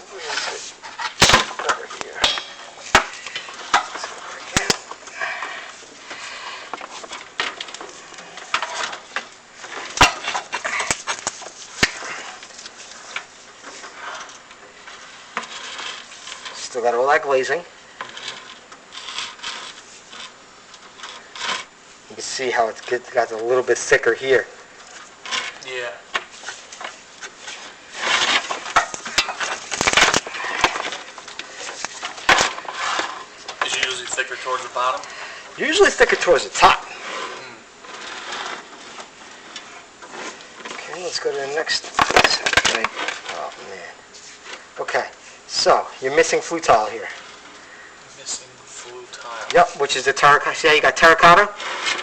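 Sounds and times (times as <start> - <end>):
rustling and scraping in flue: 0.0 - 52.0.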